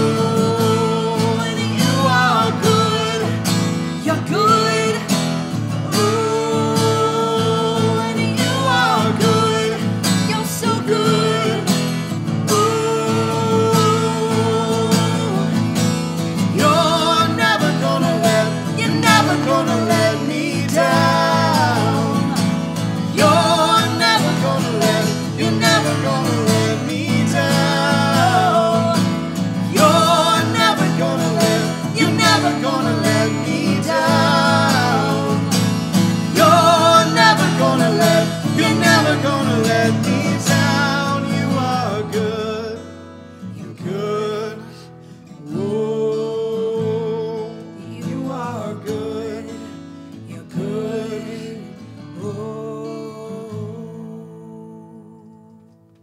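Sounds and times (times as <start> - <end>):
man and woman singing: 0.0 - 55.7
acoustic guitar strumming: 0.0 - 56.0.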